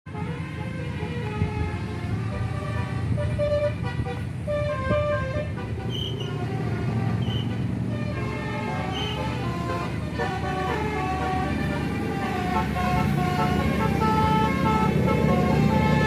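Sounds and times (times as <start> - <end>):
bus engine rumble: 0.1 - 16.0
bus horn playing a melody: 0.1 - 16.0.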